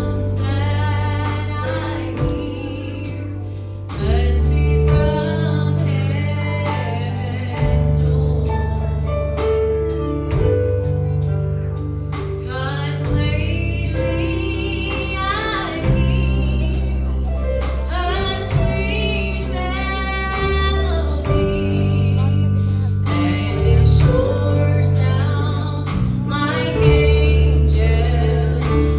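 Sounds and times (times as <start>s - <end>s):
woman singing: 0.0s - 9.1s, 12.4s - 28.9s
band with bass and drums: 0.0s - 28.9s.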